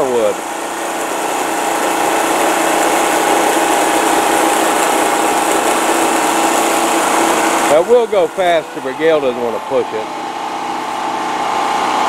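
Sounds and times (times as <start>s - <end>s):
electric chainsaw cutting wood: 0.0s - 12.0s.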